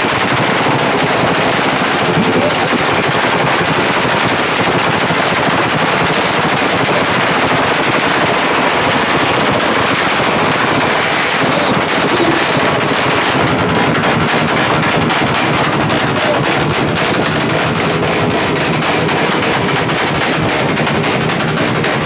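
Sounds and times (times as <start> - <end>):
racing motorcycle engines revving: 0.0 - 22.0.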